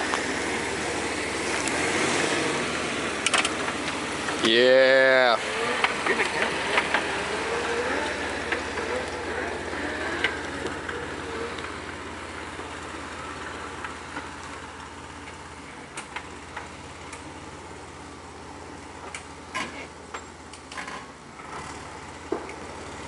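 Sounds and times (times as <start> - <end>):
engine rumbling at low speed: 0.0 - 23.0.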